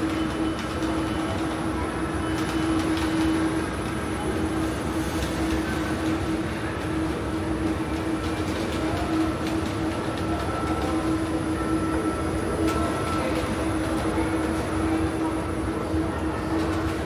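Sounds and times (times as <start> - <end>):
mechanical rumble with low hum: 0.0 - 17.0.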